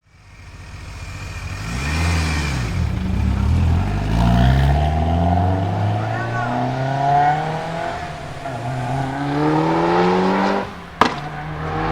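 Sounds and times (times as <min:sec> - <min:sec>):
turbocharged car engine revving: 0:00.0 - 0:11.9.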